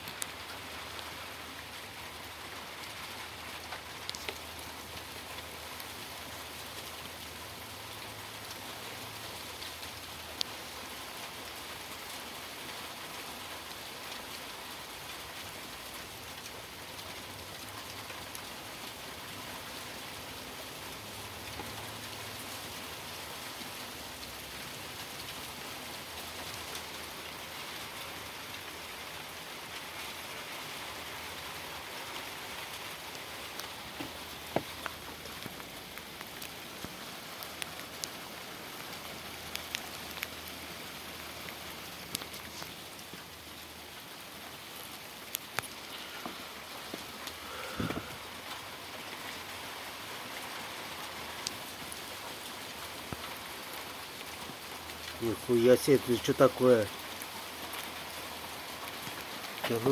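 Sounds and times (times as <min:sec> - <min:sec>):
rain and sleet pattering: 0:00.0 - 0:59.9.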